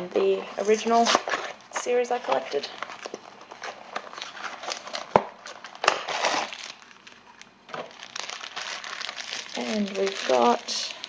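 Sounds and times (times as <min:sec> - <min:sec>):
foil bag crinkling: 0:00.6 - 0:11.0.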